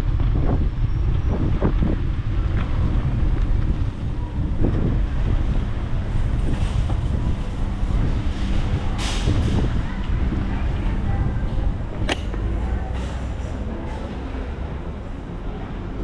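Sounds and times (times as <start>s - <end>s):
road and traffic noise: 0.0s - 16.0s
wind buffeting microphone: 0.0s - 16.0s.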